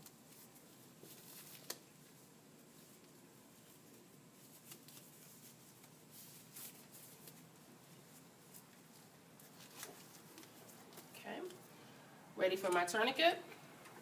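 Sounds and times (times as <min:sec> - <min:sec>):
rustling of disposable gloves: 0:00.0 - 0:11.8.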